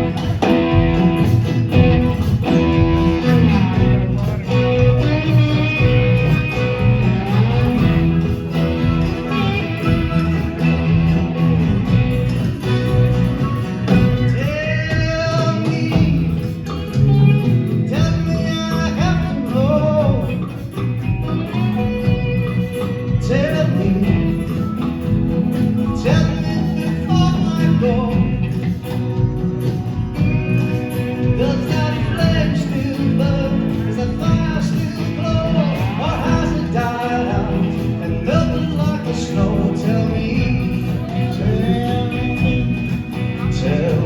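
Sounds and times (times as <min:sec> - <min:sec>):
lead melody line bending: 0:00.0 - 0:44.0
live band playing: 0:00.0 - 0:44.0.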